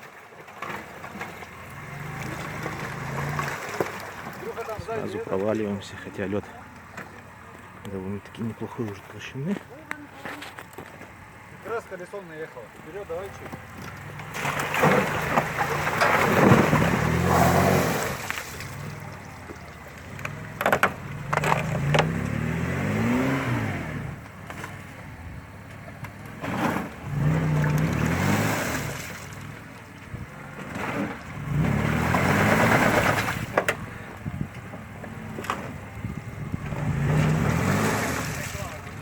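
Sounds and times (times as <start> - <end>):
wheels churning mud and ice: 0.0 - 39.0
car engine revving: 0.6 - 39.0.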